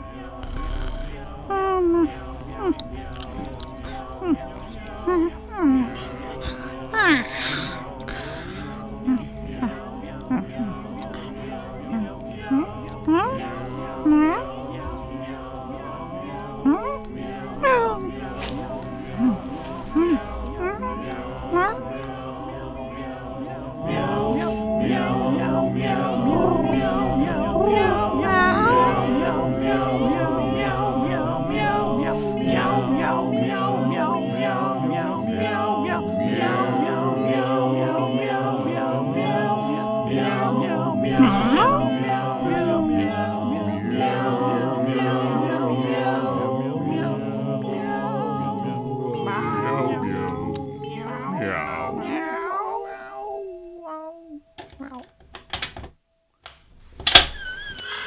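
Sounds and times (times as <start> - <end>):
voices singing in harmony: 0.0 - 54.6.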